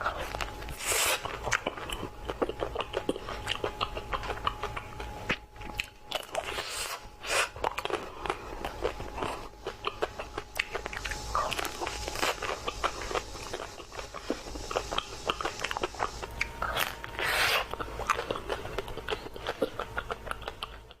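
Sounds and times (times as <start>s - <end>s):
person chewing ice cream: 0.0s - 21.0s.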